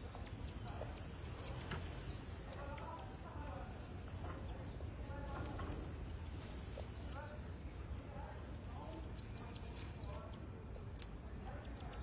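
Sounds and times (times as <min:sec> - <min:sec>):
marmoset clucking calls: 0:00.0 - 0:12.0
marmosets chirping: 0:00.0 - 0:12.0.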